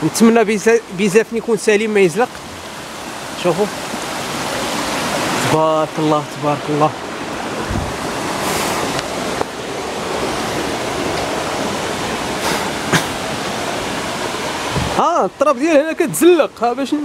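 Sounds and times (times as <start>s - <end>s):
fast-flowing stream water rushing: 0.0s - 17.0s.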